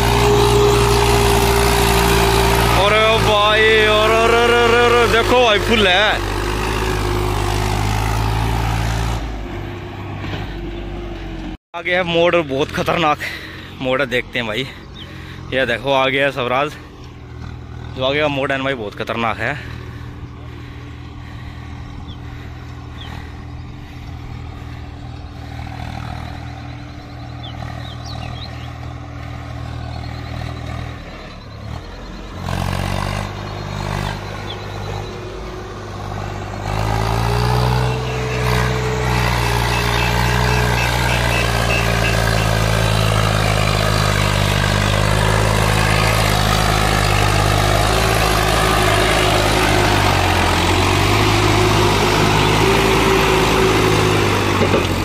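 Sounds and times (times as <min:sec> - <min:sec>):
tractor diesel engine labouring: 0:00.0 - 0:55.0.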